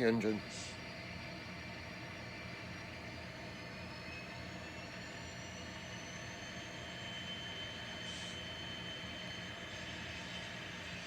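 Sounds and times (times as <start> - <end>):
thin rising whine: 0.0 - 11.0.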